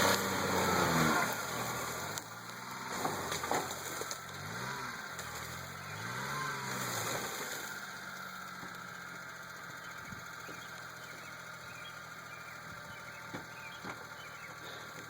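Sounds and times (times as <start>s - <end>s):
truck engine revving and idling: 0.0s - 15.0s.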